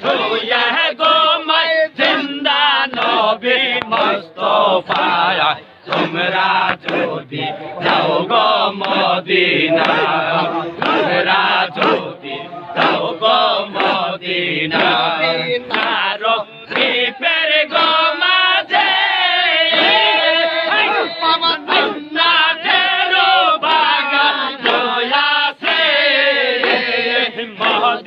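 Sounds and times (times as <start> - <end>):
men chanting together: 0.0 - 28.0.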